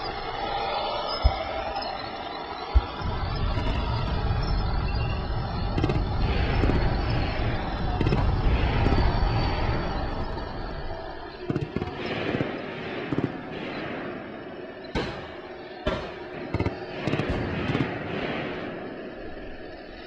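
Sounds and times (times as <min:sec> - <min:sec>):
battle background noise: 0:00.0 - 0:20.0
gunshots and blasts: 0:02.7 - 0:19.3.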